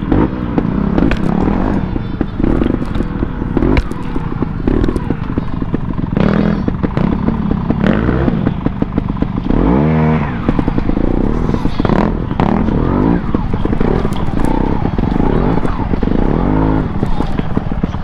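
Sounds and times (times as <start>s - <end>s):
clatter and scraping on rocks: 0.0s - 9.6s, 10.2s - 18.0s
motorcycle engine revving: 0.0s - 18.0s.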